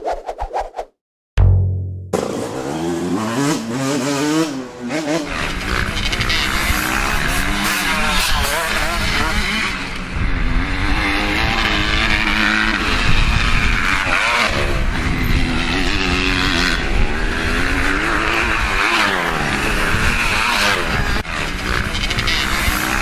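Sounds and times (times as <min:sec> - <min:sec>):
dirt bike engine revving: 0:02.1 - 0:23.0.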